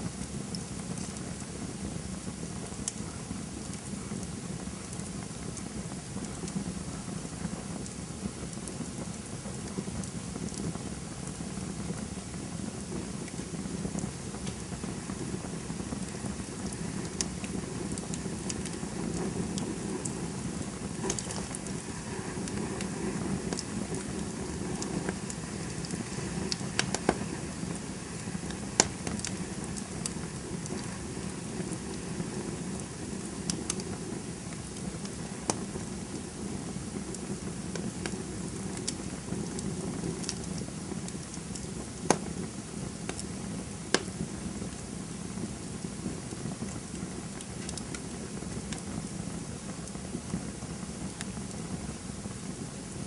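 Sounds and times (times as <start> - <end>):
campfire flames rushing: 0.0 - 53.0
fire crackles and pops: 0.0 - 53.0.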